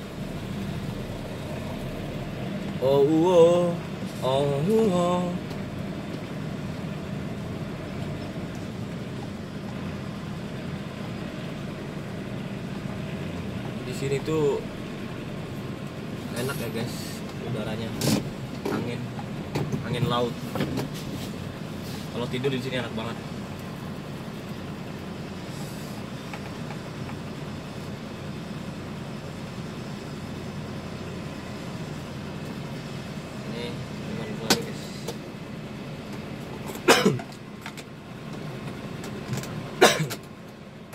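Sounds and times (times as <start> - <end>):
truck diesel engine droning: 0.0 - 40.9.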